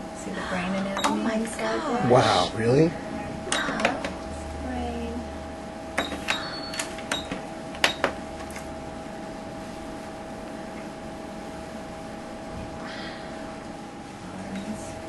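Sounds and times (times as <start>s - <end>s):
two-tone electronic hum: 0.0s - 15.0s.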